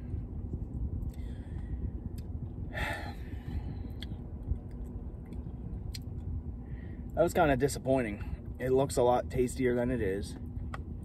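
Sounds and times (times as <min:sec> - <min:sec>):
car cabin rumble with heater: 0:00.0 - 0:11.0.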